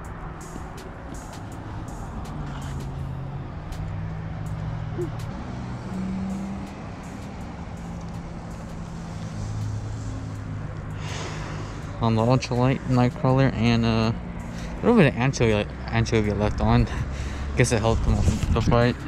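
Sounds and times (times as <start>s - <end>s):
traffic rumble on bridge: 0.0s - 19.0s.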